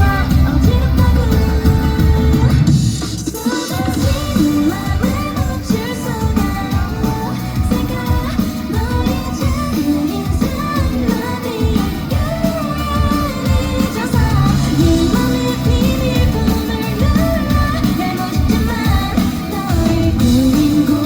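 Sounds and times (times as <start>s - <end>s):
pop-rock band playing live: 0.0s - 21.0s
woman singing: 0.0s - 21.0s.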